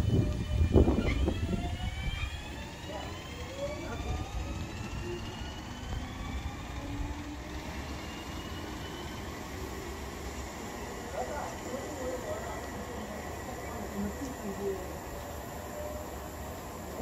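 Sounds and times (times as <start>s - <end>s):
traction motors whining: 0.0s - 17.0s
wheels rumbling on rails: 0.0s - 17.0s.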